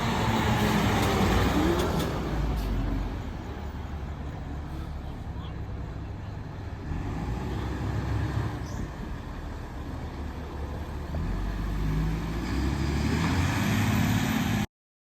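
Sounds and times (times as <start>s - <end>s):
diesel fire engine rumbling: 0.0s - 14.7s.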